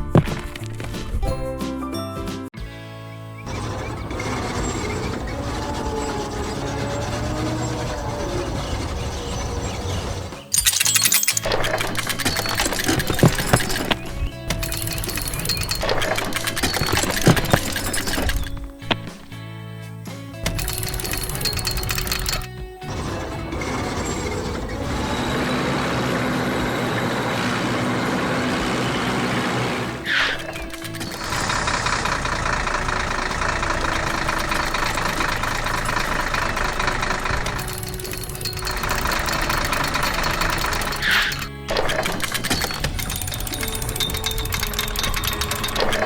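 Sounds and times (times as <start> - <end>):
rapid clattering and crackling: 0.0 - 1.3, 3.5 - 19.4, 20.4 - 46.0
background music: 0.0 - 46.0
mechanical running sound: 3.4 - 19.2, 20.4 - 46.0.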